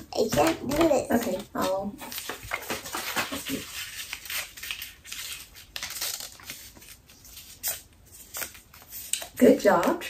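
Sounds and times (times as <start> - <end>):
paper crinkling and rustling: 0.2 - 10.0.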